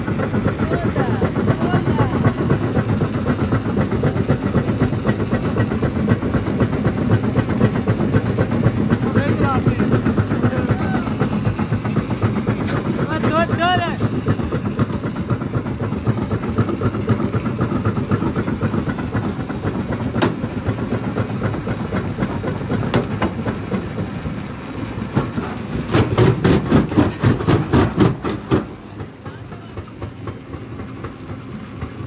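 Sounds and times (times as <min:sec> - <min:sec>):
rock crusher clattering: 0:00.5 - 0:24.2, 0:25.0 - 0:29.4.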